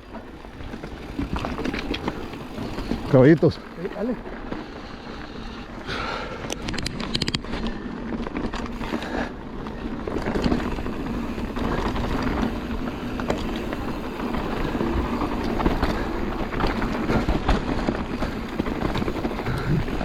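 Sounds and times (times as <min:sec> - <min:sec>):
bike rattling: 0:00.0 - 0:20.0
tyres rolling over dirt and stones: 0:00.0 - 0:20.0.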